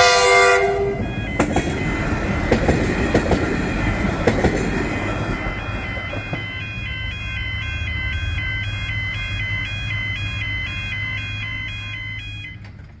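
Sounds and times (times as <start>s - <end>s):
two-tone electronic warning alarm: 0.0s - 13.0s
low engine rumble: 0.9s - 13.0s.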